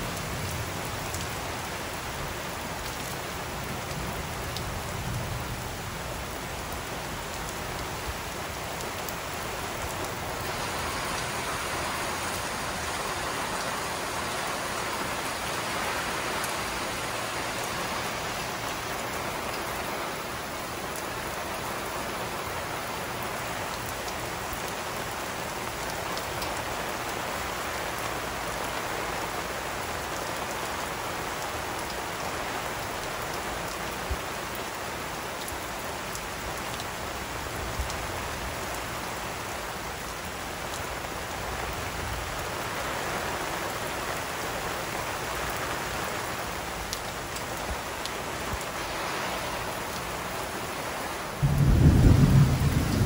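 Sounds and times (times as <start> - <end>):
rain pouring on leaves: 0.0 - 53.0.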